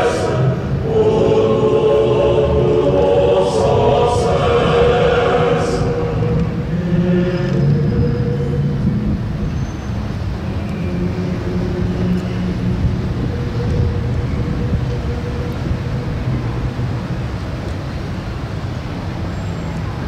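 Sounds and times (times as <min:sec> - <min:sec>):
traffic engine hum: 0:00.0 - 0:20.0.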